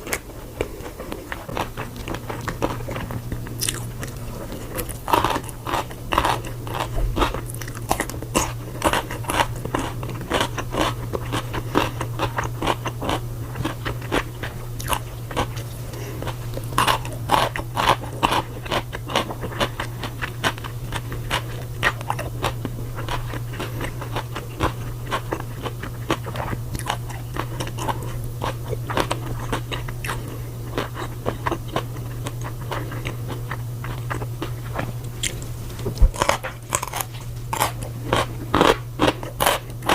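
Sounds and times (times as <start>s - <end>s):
chewing crunchy food: 0.0s - 39.9s
steady low hum: 0.0s - 39.9s.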